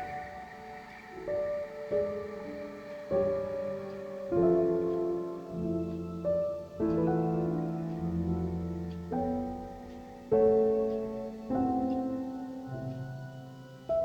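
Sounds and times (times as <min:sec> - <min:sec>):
slow soft piano chords: 0:00.0 - 0:14.0.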